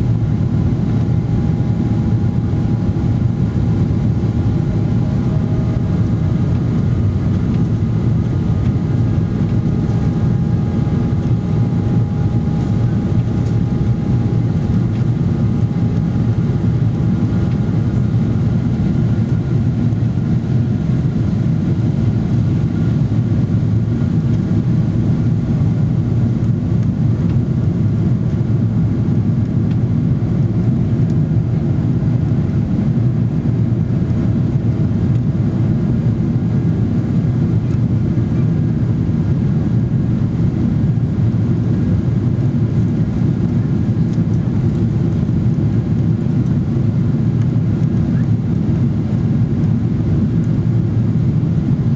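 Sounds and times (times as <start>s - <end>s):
airplane cabin engine roar: 0.0s - 51.9s.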